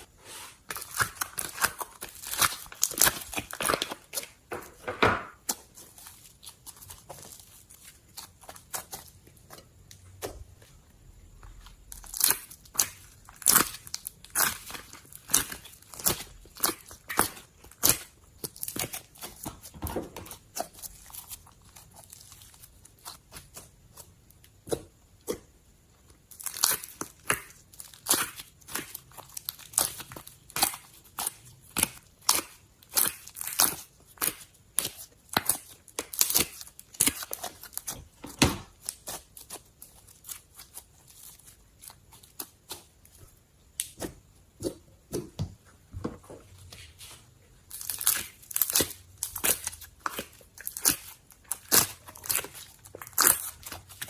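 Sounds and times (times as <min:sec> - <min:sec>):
slime popping and squishing: 0:00.7 - 0:10.6, 0:11.5 - 0:25.5, 0:26.2 - 0:45.4, 0:47.7 - 0:54.0.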